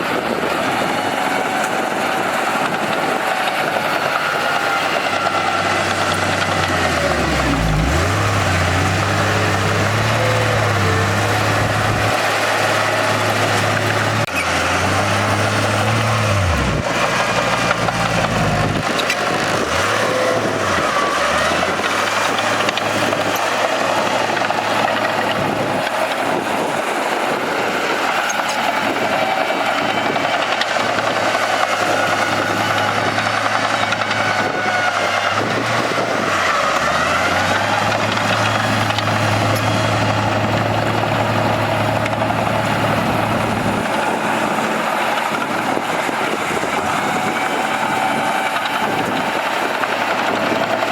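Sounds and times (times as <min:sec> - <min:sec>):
bulldozer diesel engine under load: 0:00.0 - 0:50.9.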